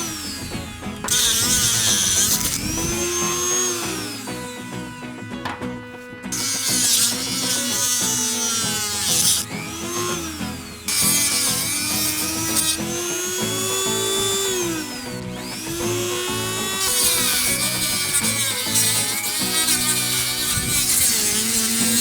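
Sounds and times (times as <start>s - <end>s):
gritty plastic cutting noise: 0.0s - 22.0s
rotary tool motor whine: 0.0s - 22.0s.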